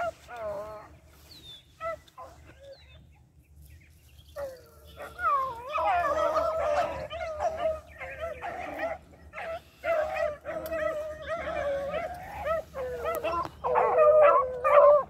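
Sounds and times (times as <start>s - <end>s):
pack of dogs baying: 0.0s - 2.9s, 4.4s - 15.0s.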